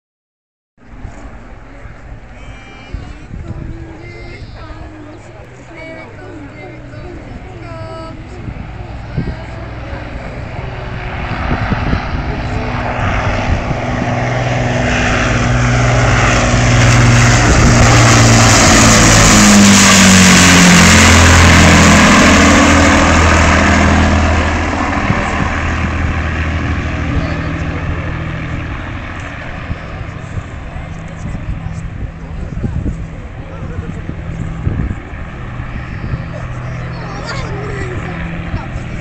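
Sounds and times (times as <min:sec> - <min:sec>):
propeller plane engines droning: 0:00.8 - 0:39.0.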